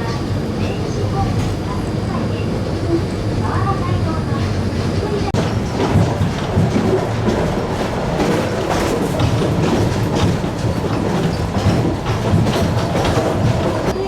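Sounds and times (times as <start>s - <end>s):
tram wheels rumbling on rail: 0.0s - 14.0s
wheels clicking over rail joints: 0.0s - 14.0s.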